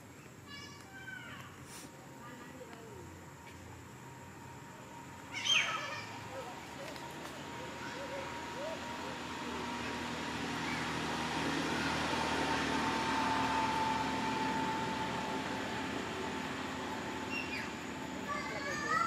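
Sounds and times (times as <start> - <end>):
motor hum: 2.2 - 19.0.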